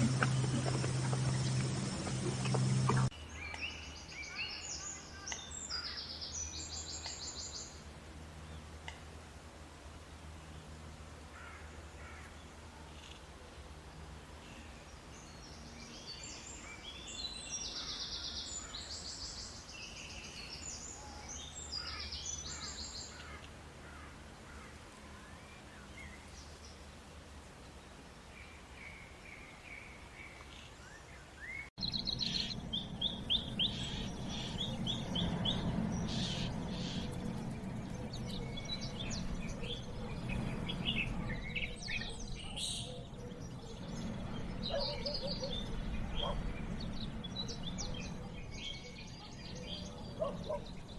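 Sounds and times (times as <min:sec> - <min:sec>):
wild birds chirping: 0:00.0 - 0:08.8, 0:10.4 - 0:26.9, 0:27.8 - 0:50.9
low background noise: 0:00.0 - 0:50.9.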